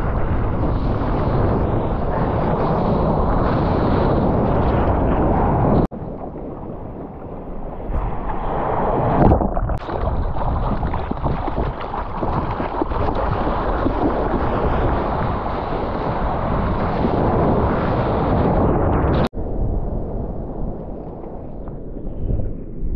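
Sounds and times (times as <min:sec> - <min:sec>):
seawater rushing and splashing: 0:00.0 - 0:19.3
wind buffeting microphone: 0:00.0 - 0:22.9.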